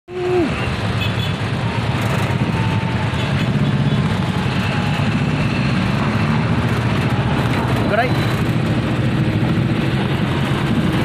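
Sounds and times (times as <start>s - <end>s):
vehicle engine droning: 0.1s - 11.0s.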